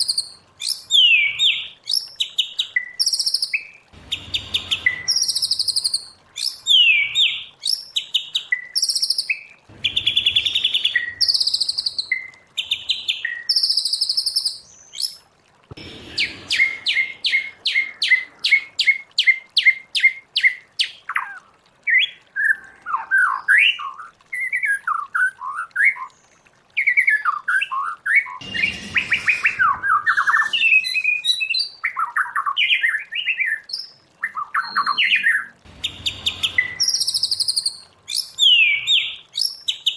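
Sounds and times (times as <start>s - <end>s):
bird singing varied song: 0.0s - 15.2s, 16.3s - 39.9s.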